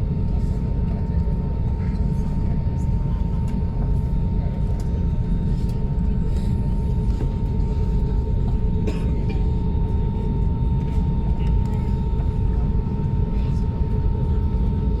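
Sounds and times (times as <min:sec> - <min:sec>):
jet engine and airflow roar: 0:00.0 - 0:15.0.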